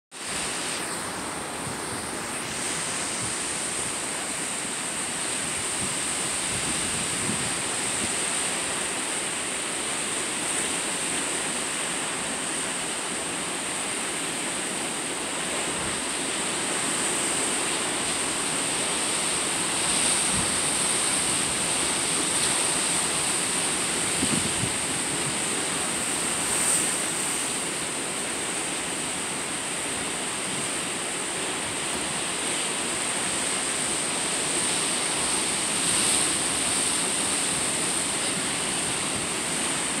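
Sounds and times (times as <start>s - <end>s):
steady high hiss: 0.2s - 40.0s.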